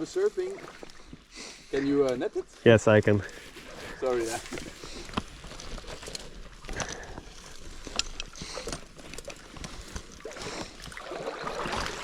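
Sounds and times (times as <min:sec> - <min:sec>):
water splashing and sloshing: 0:00.0 - 0:02.6, 0:03.2 - 0:12.0.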